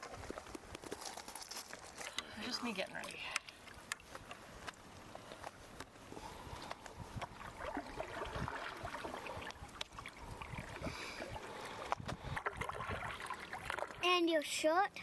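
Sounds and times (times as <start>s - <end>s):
creek water splashing: 0.0s - 14.4s.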